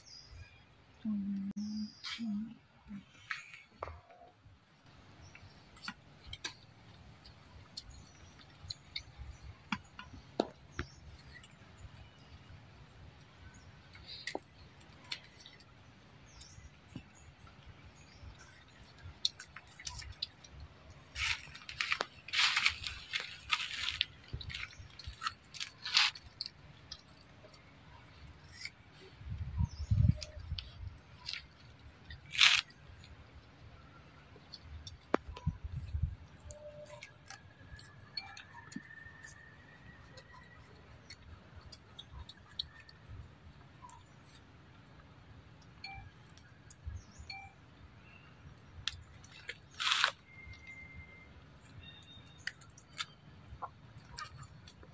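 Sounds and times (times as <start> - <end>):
monkeys crunching fruit: 2.9 - 54.9.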